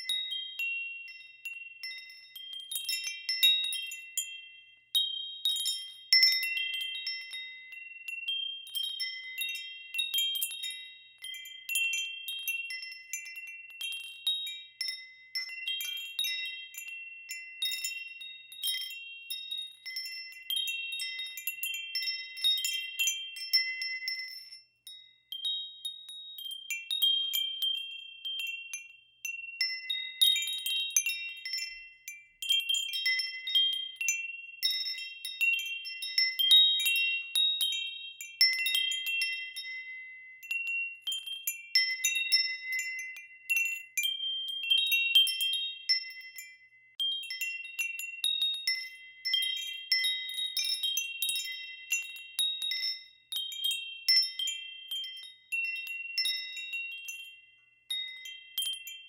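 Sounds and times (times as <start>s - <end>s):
wind chimes ringing: 0.0s - 59.0s.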